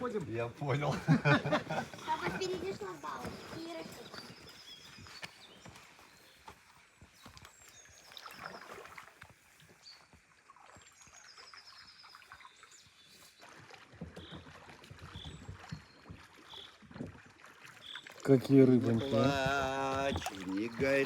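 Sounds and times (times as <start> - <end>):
songbirds chirping and trilling: 0.0 - 10.2, 10.8 - 21.0
paddles splashing in water: 0.0 - 21.0.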